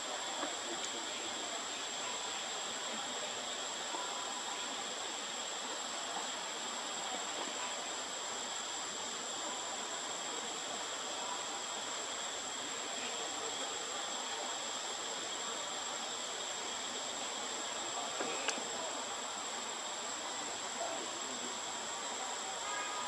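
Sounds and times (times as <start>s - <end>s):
insect chorus whine: 0.0s - 23.0s
outdoor hiss: 0.0s - 23.0s.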